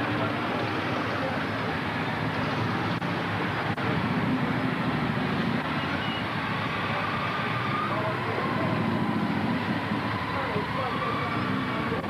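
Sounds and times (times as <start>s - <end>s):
background noise: 0.0s - 12.0s
motorcycle engines rumbling: 0.0s - 12.0s.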